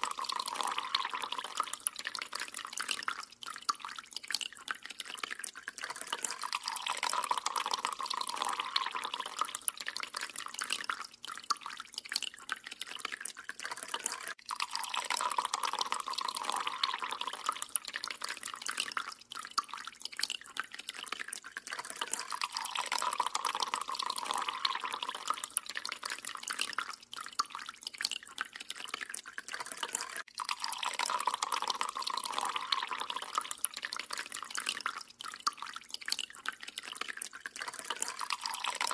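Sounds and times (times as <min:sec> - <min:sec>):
water dripping into metal sink: 0:00.0 - 0:38.9.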